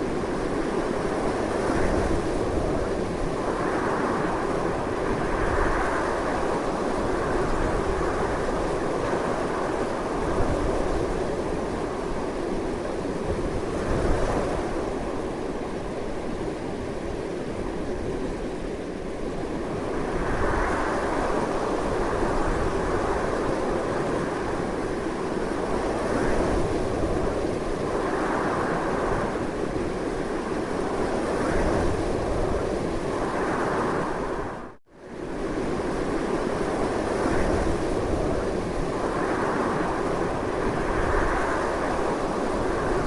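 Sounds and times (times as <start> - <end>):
strong wind: 0.0 - 43.0.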